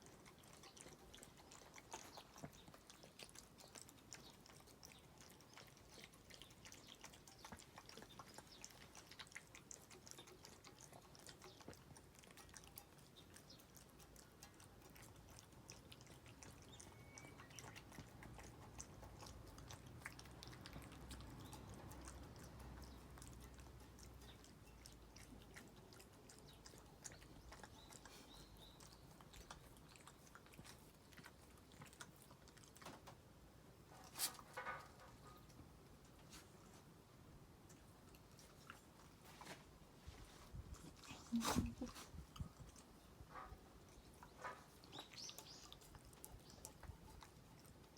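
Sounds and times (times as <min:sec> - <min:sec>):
dog lapping soup: 0:00.0 - 0:33.0, 0:40.6 - 0:47.9.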